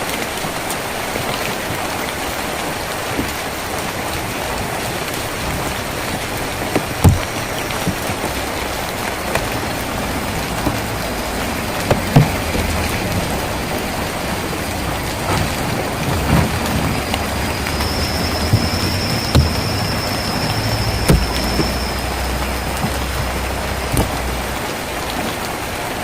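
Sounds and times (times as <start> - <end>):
rain on a tin roof: 0.0 - 26.0.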